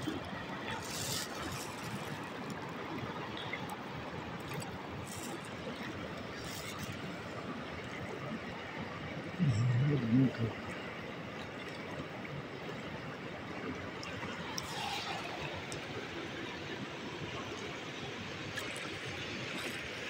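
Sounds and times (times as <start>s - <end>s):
river rushing: 0.0s - 9.4s, 10.5s - 20.0s.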